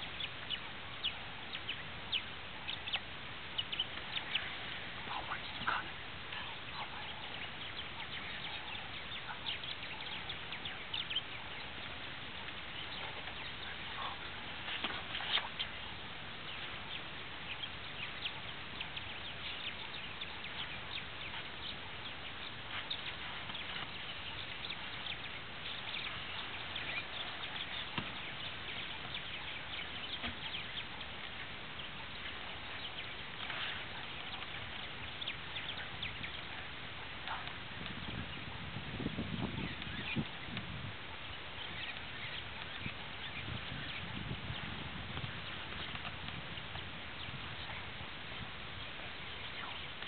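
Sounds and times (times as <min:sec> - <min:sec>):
birds chirping and calling: 0:00.0 - 0:50.0
steady bush ambience hiss: 0:00.0 - 0:50.0.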